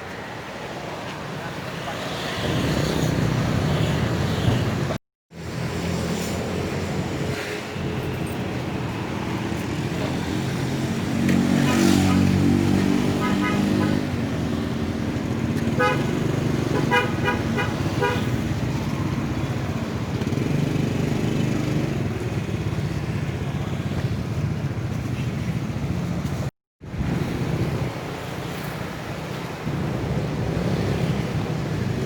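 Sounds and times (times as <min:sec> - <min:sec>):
road traffic: 0:00.0 - 0:32.0.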